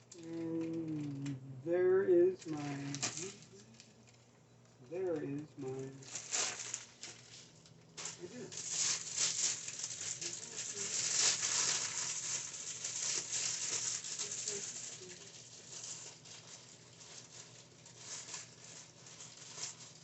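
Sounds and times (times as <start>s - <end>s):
plastic bag crinkling: 0.0s - 1.3s, 2.4s - 4.3s, 5.2s - 20.0s.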